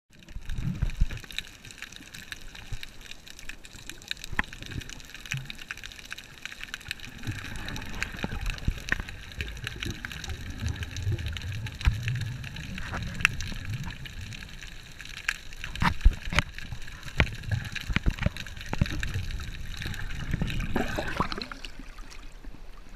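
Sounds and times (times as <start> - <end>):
muffled underwater water wash: 0.1 - 22.9
sharp underwater clicks: 0.2 - 21.4.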